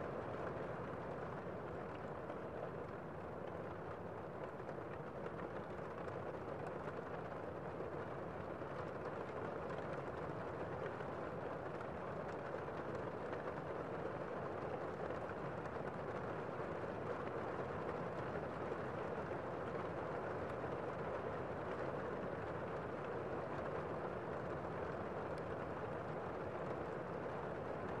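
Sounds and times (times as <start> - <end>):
muffled heavy rain: 0.1 - 28.0.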